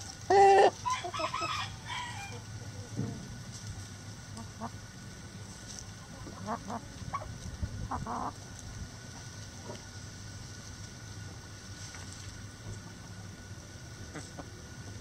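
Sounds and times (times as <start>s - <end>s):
chickens clucking: 0.0s - 15.0s
low background hum: 0.0s - 15.0s.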